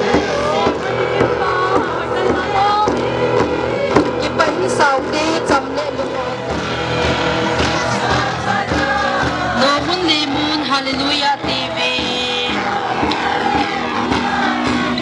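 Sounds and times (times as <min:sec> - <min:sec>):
music with singing voices: 0:00.0 - 0:15.0
sharp percussive strikes: 0:00.0 - 0:15.0.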